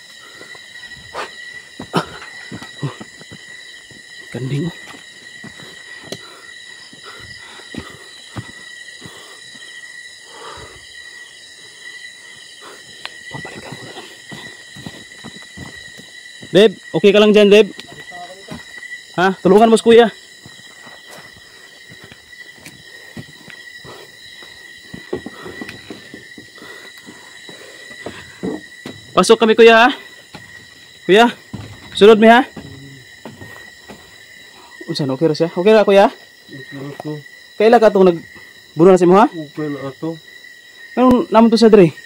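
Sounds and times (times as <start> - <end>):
footsteps on dirt path: 0.0 - 34.8
night insects droning: 0.0 - 42.0.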